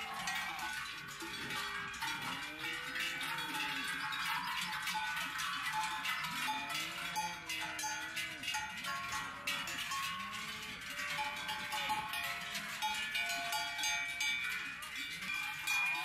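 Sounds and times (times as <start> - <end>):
cowbells clanging: 0.0 - 16.0.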